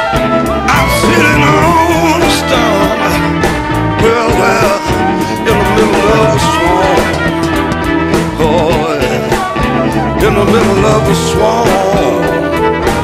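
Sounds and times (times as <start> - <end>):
rock and roll song: 0.0 - 13.0.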